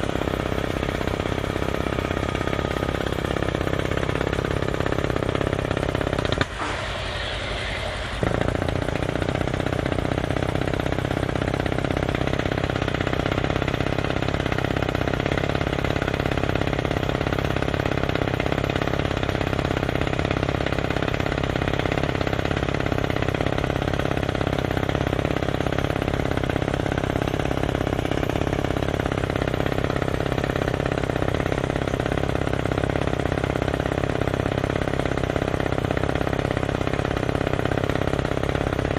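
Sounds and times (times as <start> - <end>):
drilling rig machine noise: 0.0 - 38.9.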